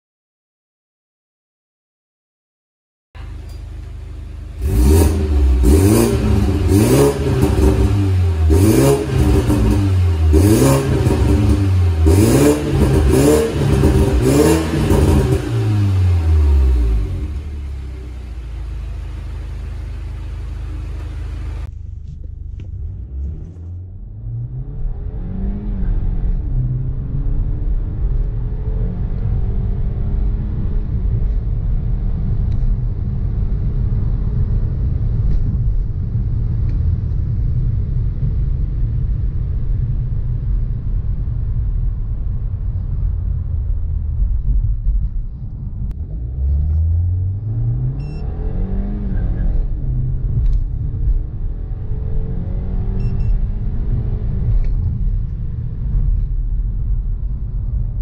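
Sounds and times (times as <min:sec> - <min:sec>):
car engine revving: 0:03.2 - 0:39.8, 0:40.4 - 0:58.0
car engine accelerating: 0:03.2 - 0:58.0.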